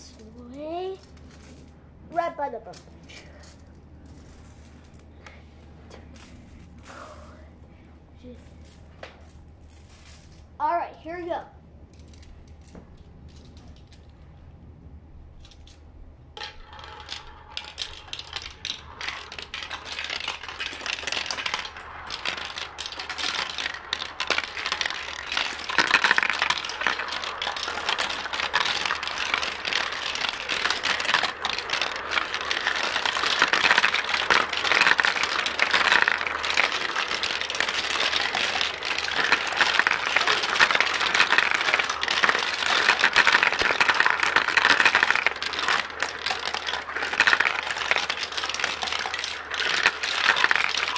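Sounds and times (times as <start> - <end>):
marbles clattering in plastic run: 0.0 - 5.4, 6.1 - 7.4, 8.2 - 10.6, 11.9 - 14.2, 15.4 - 15.8, 16.4 - 50.9.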